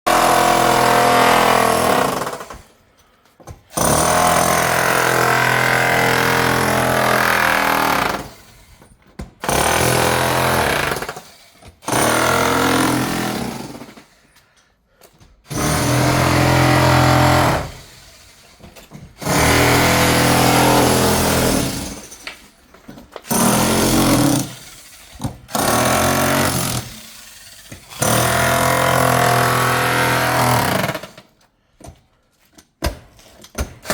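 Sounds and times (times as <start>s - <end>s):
demolition hammer breaking concrete: 0.1s - 2.7s, 3.5s - 8.5s, 9.2s - 14.0s, 15.5s - 17.8s, 18.6s - 31.3s, 32.8s - 33.9s.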